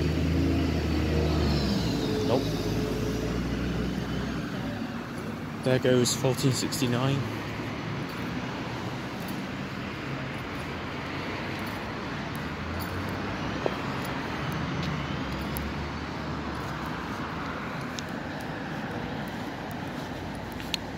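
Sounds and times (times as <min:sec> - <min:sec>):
bus diesel engine running: 0:00.0 - 0:20.9
road and traffic noise: 0:00.0 - 0:20.9.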